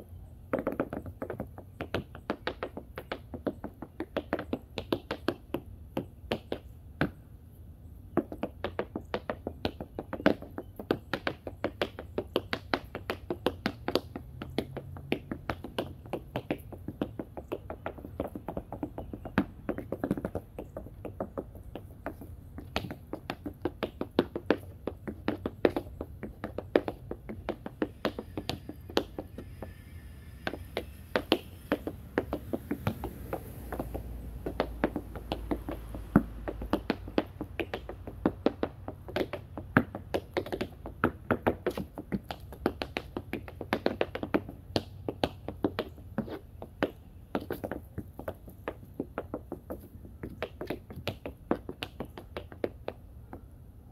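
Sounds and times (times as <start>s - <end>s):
tap shoes on tap board: 0.0s - 7.2s, 8.1s - 29.8s, 30.4s - 53.5s.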